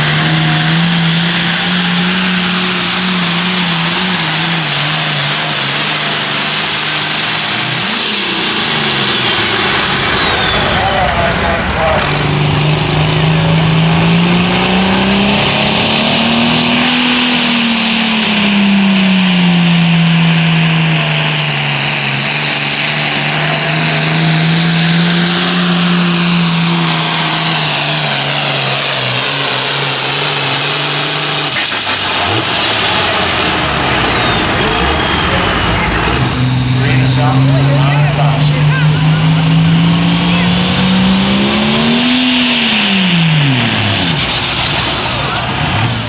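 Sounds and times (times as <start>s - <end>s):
high turbo whine: 0.0s - 46.0s
tractor diesel engine at full throttle: 0.0s - 46.0s.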